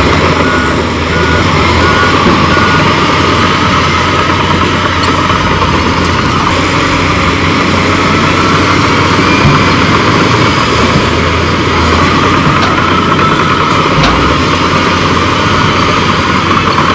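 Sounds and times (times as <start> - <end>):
diesel machinery running: 0.0 - 16.9.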